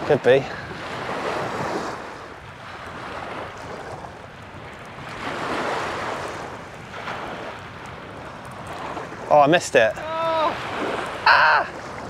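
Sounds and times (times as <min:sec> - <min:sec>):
small waves lapping: 0:00.0 - 0:12.0
wind: 0:00.0 - 0:12.0.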